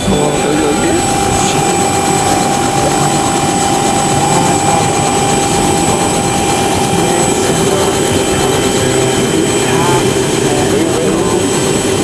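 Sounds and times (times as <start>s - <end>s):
helicopter engine and rotor: 0.0s - 12.0s
steady whine: 0.0s - 12.0s.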